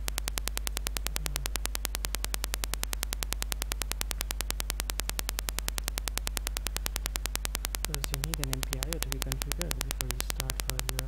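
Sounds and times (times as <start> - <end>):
low hum: 0.0 - 11.0
rapid clicking buzz: 0.0 - 11.0.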